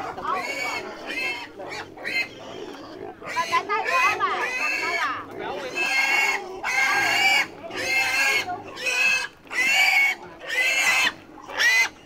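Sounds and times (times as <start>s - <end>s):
animal squealing: 0.3s - 12.0s.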